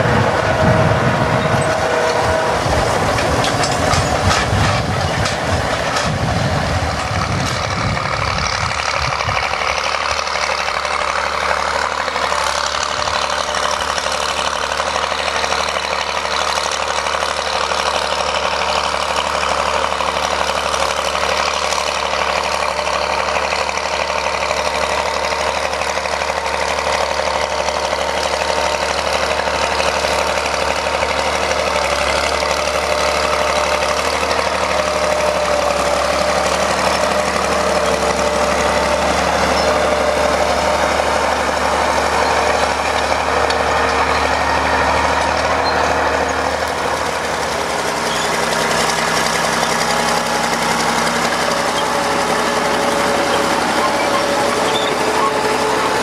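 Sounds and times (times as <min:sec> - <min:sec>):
diesel engine under load: 0:00.0 - 0:56.0
steel tracks clattering: 0:00.0 - 0:56.0.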